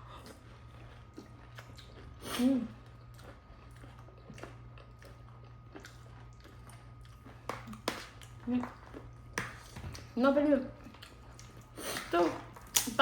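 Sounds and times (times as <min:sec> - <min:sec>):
person chewing with crunches: 0:00.0 - 0:10.2, 0:10.8 - 0:13.0.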